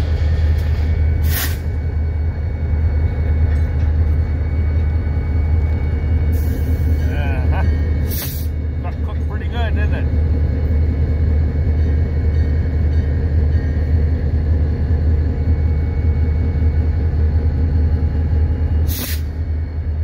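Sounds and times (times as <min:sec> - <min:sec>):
diesel locomotive engine idling: 0:00.0 - 0:20.0.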